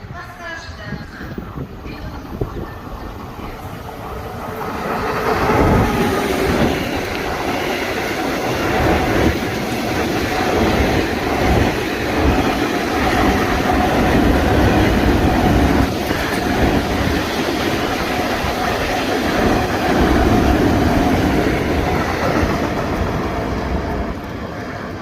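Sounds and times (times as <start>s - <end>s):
freight train passing: 0.0s - 25.0s.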